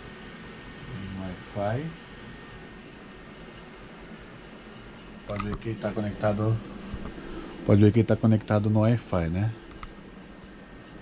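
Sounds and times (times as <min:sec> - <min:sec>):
room tone hiss and hum: 0:00.0 - 0:11.0.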